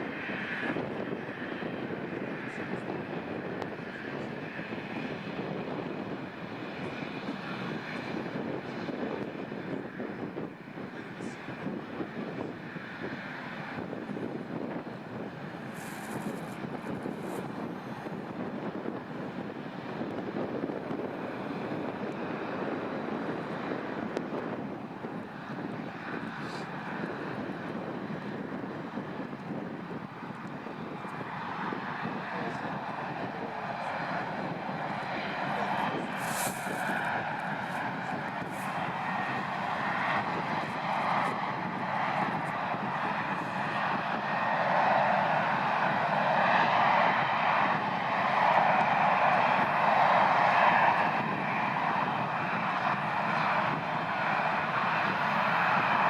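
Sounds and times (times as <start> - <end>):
jet engines rushing: 0.0 - 56.0.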